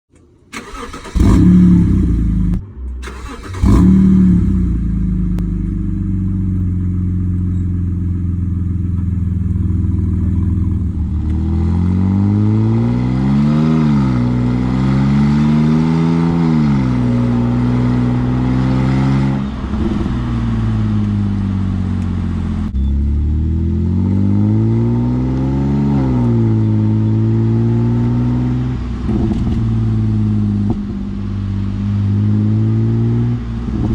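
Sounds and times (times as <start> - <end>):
car engine revving and idling: 0.4 - 33.9.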